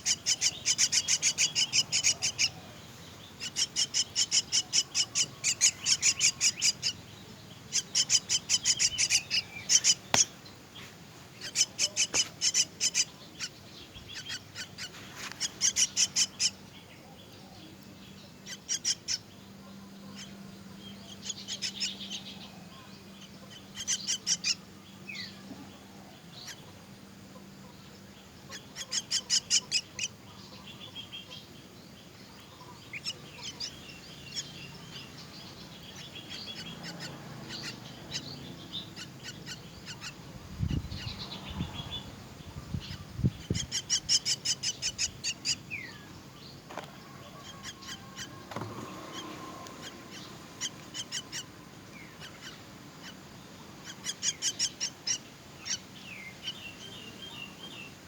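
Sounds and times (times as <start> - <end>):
nestlings begging calls: 0.0 - 58.0.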